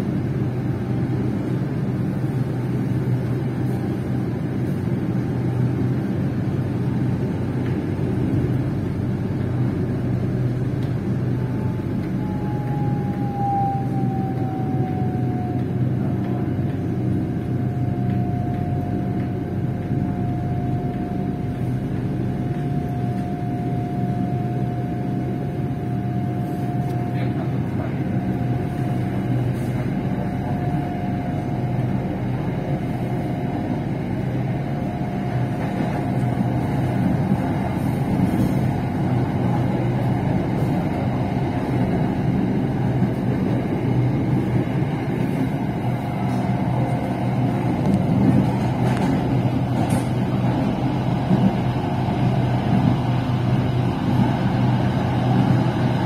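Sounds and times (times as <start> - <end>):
electric train rumble and whine: 0.0 - 56.0.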